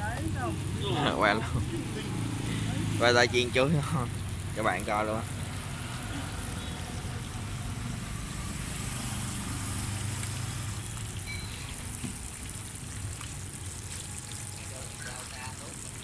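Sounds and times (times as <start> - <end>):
passing street traffic: 0.0 - 15.2
bananas frying in hot oil: 0.0 - 16.0.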